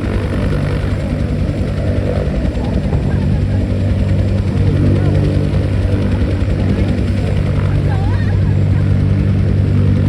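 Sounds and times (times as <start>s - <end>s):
helicopter rotor drone: 0.0s - 10.0s.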